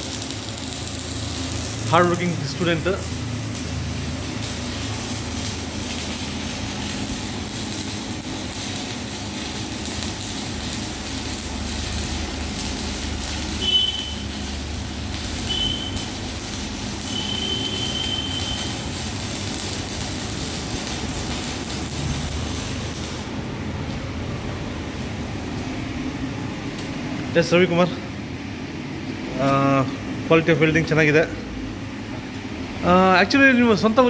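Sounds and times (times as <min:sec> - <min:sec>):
welding arc crackling and hissing: 0:00.0 - 0:27.9.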